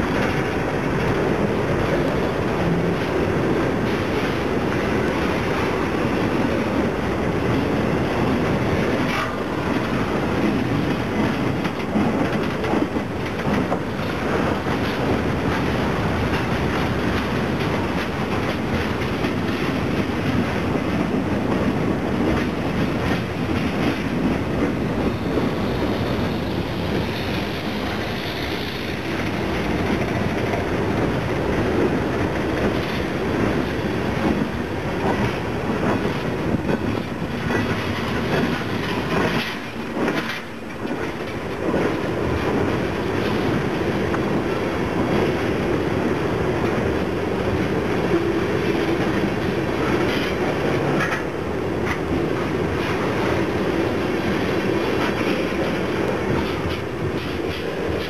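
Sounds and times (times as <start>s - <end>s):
train wheels rumbling on rails: 0.0s - 58.0s
wheels clacking over rail joints: 0.0s - 58.0s.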